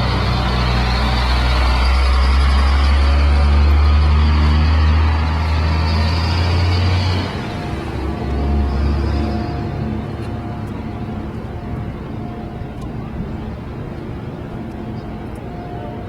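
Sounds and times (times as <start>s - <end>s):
road and wind noise: 0.0s - 16.0s
vehicle engine rumble: 0.0s - 16.0s.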